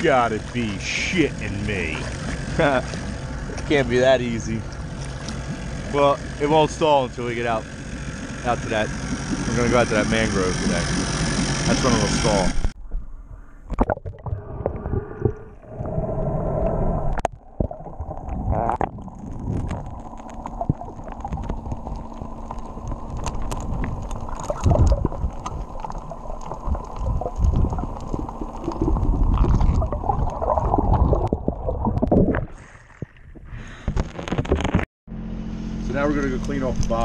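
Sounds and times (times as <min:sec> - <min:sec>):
water churning underwater: 0:00.0 - 0:34.8.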